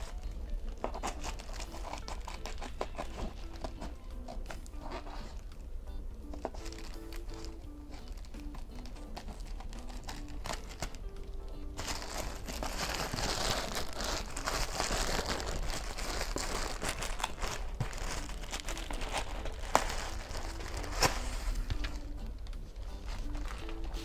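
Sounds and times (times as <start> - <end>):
plastic wrapping crinkling: 0.0 - 24.0.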